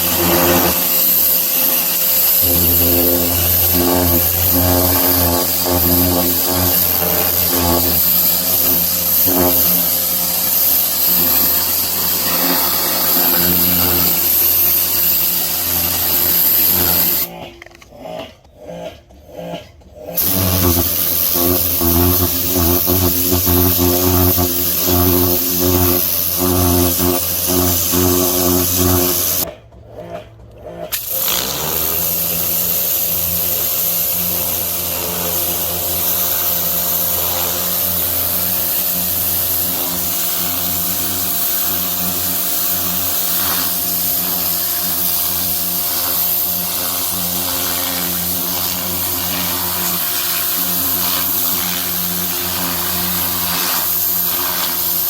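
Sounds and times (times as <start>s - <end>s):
pressure washer running and spraying: 0.0s - 17.4s, 20.1s - 29.5s, 30.9s - 55.0s.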